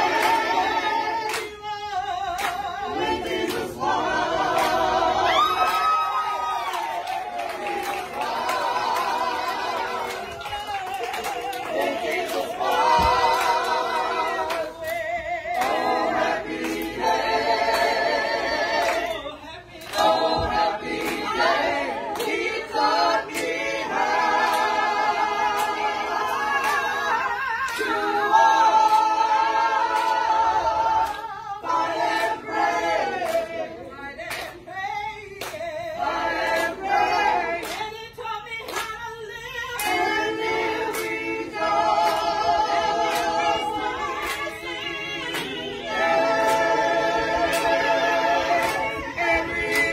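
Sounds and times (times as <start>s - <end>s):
hand clapping: 0.0s - 0.6s, 1.2s - 1.7s, 2.3s - 19.2s, 19.8s - 29.2s, 29.9s - 30.4s, 31.0s - 33.6s, 34.2s - 34.7s, 35.3s - 38.0s, 38.6s - 39.1s, 39.8s - 49.9s
crowd singing unaccompanied: 0.0s - 49.9s.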